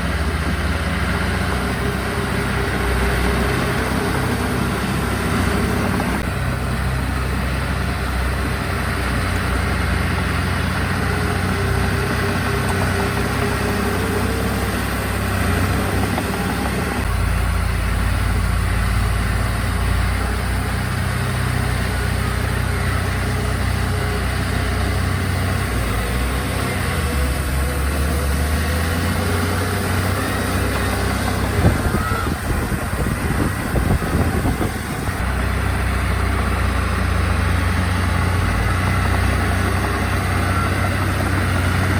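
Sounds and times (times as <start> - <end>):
heavy machinery diesel engines: 0.0 - 41.9.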